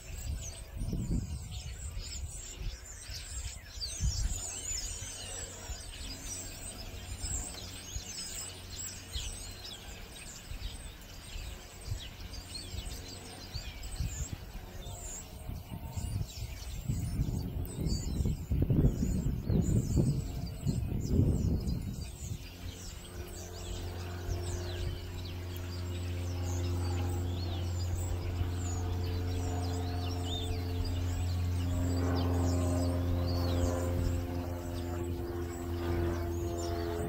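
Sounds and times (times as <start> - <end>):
flock of birds chirping: 0.0 - 37.0
steady low hum: 0.0 - 37.0.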